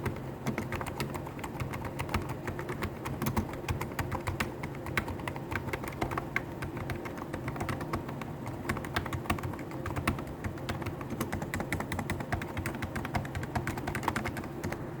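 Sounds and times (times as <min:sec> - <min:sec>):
fast keyboard typing: 0:00.0 - 0:15.0.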